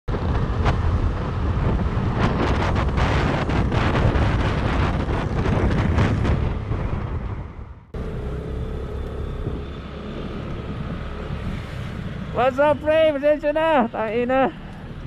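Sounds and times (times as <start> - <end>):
steady low rumble: 0.1 - 15.0
wind buffeting microphone: 0.1 - 15.0.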